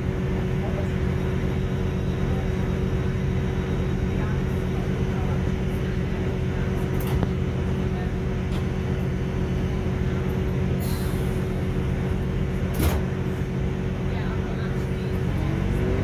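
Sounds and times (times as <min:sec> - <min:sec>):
train diesel engine drone: 0:00.0 - 0:16.0.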